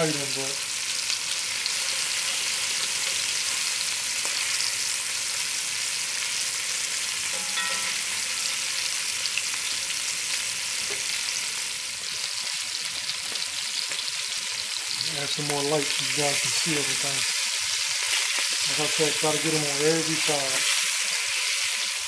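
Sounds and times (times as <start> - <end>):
meat sizzling in hot fat: 0.0 - 22.0.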